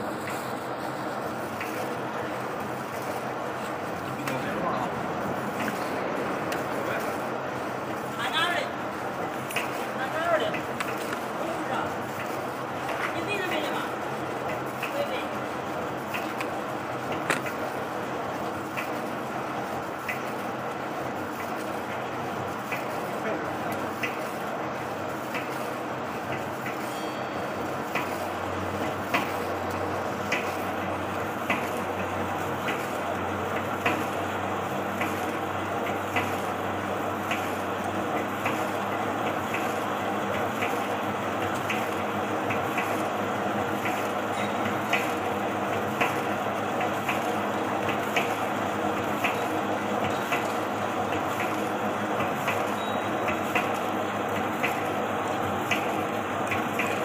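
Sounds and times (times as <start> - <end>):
wrapping machine hum: 0.0 - 57.0.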